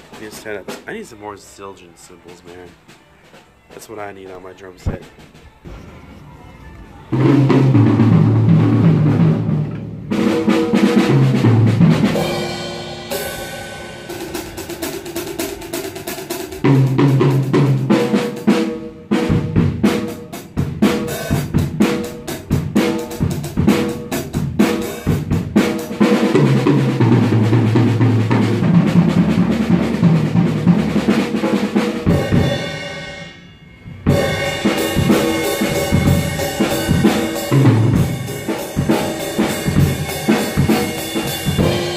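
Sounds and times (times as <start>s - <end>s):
drum kit played hard: 0.0s - 41.9s.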